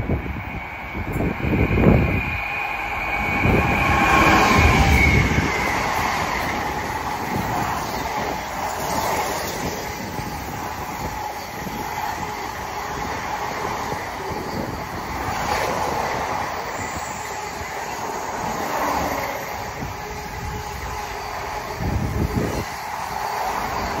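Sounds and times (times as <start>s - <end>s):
diesel locomotive passing: 0.0s - 24.0s.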